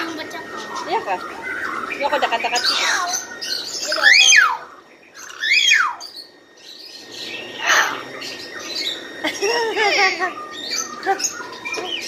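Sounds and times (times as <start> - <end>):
bird calling loudly: 0.0 - 12.0.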